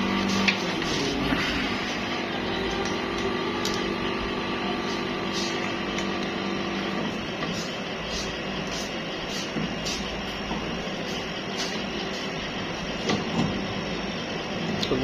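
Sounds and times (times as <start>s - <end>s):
machine motor humming: 0.0s - 15.0s.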